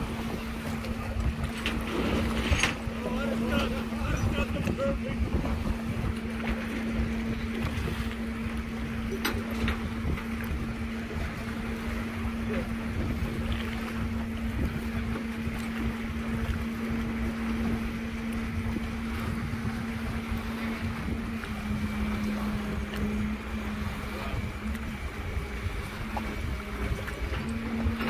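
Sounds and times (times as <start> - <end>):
engine running steadily: 0.0 - 28.0
water rumbling: 0.0 - 28.0
wind: 0.0 - 28.0.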